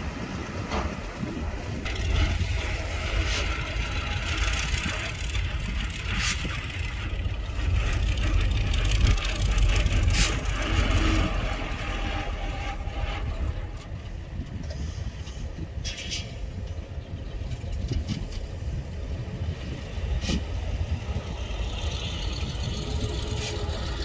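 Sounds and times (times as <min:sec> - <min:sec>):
heavy diesel engine rumble: 0:00.0 - 0:24.0.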